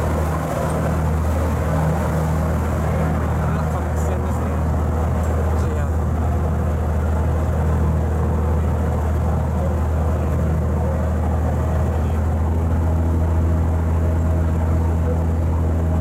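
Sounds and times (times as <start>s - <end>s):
boat engine droning: 0.0s - 16.0s
propeller wake churning: 0.0s - 16.0s.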